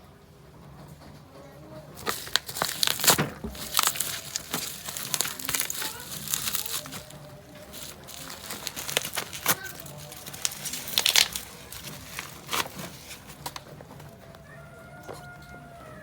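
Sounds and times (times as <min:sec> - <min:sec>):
plastic and cardboard crinkling: 0:01.4 - 0:16.0.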